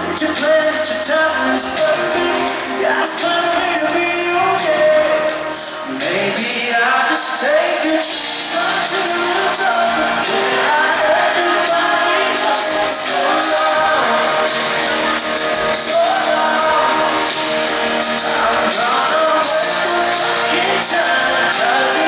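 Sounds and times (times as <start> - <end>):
live pop band playing: 0.0 - 22.0
man singing into a microphone: 0.0 - 22.0.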